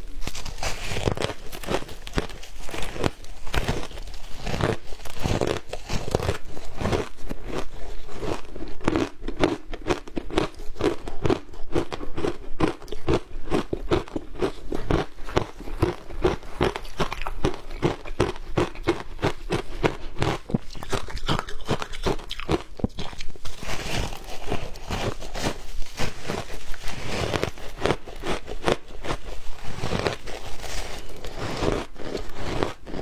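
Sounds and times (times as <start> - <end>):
person chewing shaved ice: 0.0 - 33.0.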